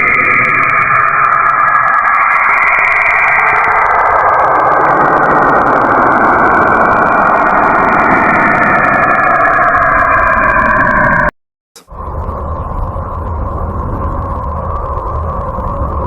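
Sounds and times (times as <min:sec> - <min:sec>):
synthesized rumbling drone: 0:00.0 - 0:16.0.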